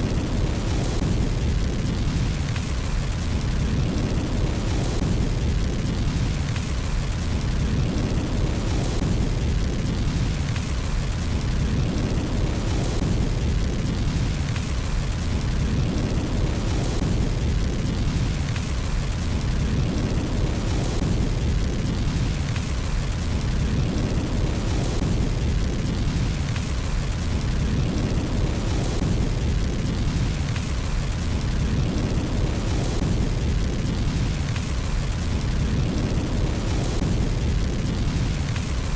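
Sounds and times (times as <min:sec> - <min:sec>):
fire crackling and popping: 0:00.0 - 0:38.9
low roar of flames: 0:00.0 - 0:38.9.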